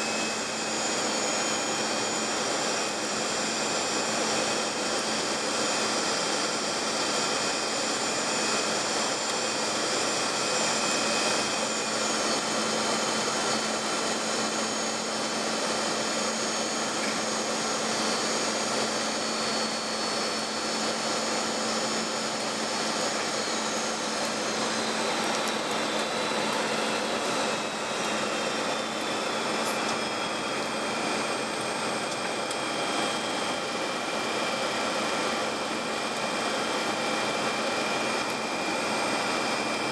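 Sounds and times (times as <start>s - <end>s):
high-pitched whines: 0.0s - 39.9s
jet engine and airflow noise: 0.0s - 39.9s.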